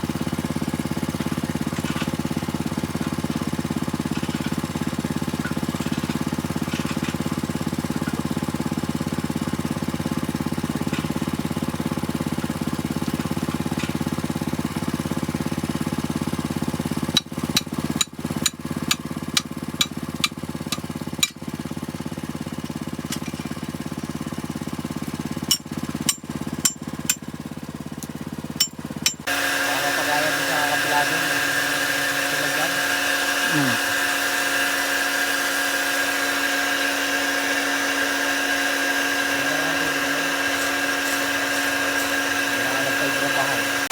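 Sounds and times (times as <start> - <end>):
small engine running steadily: 0.0 - 43.9.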